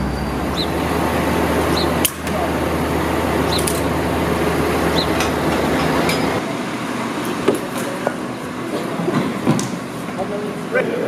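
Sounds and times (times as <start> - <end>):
heavy vehicle engine humming: 0.0 - 11.0
street noise: 0.0 - 11.0.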